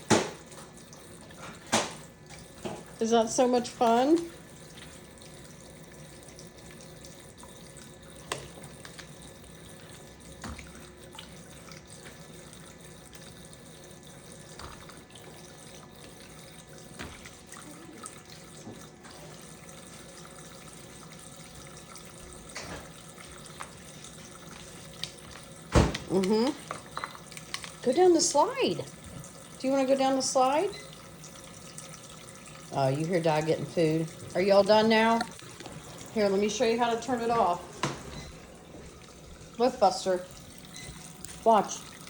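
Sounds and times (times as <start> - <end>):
tap running water stream: 0.0 - 42.0.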